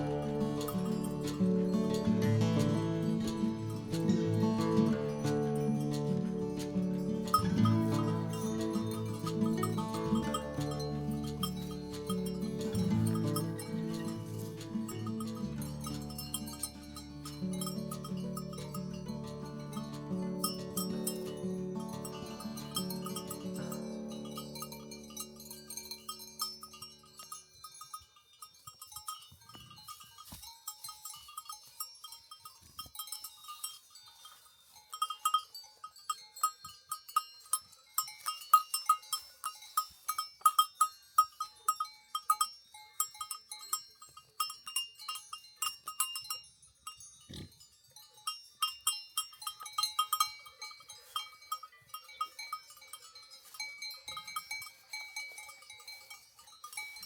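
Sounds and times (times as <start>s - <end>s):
livestock bells clanking: 0.0s - 57.0s.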